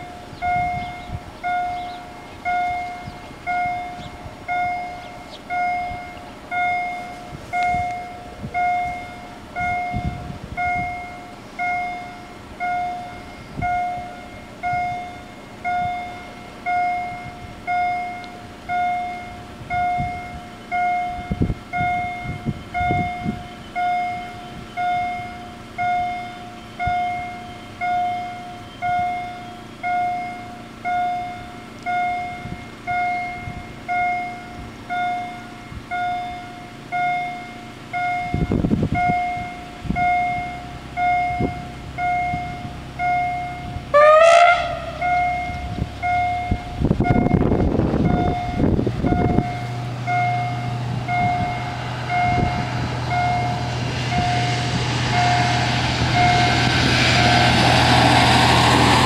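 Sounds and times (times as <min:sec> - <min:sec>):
level crossing warning bell: 0:00.0 - 0:57.7.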